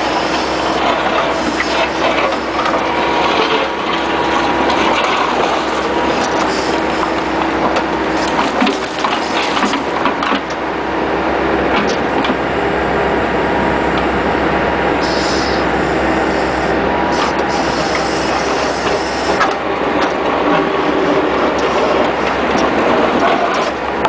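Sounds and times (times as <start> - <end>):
diesel engine running: 0.0 - 24.0
hydraulics working: 0.0 - 24.0.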